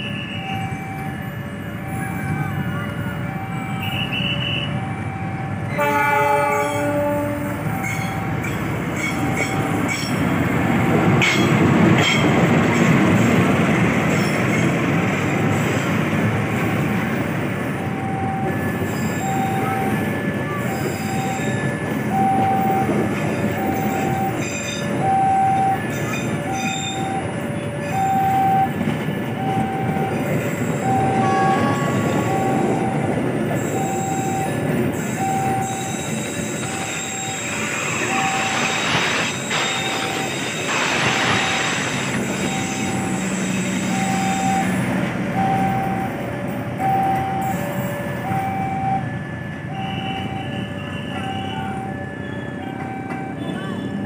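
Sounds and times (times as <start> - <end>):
train wheels rumbling and clattering: 5.0 - 54.0.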